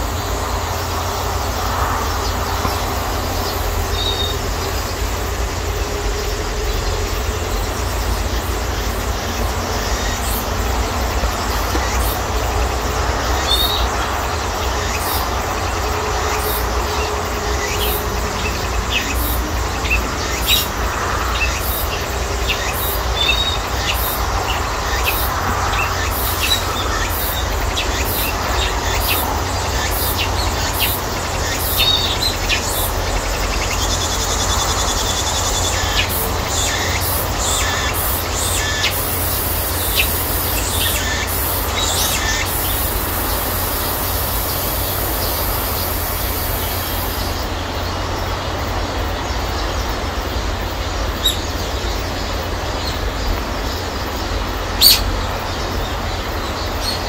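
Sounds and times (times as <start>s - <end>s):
cicadas shrilling in chorus: 0.0s - 57.0s
high steady insect drone: 0.0s - 57.0s.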